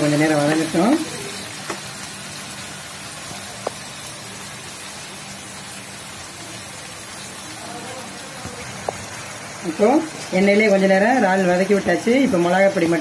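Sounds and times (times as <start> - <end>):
prawns sizzling in oil: 0.0 - 13.0.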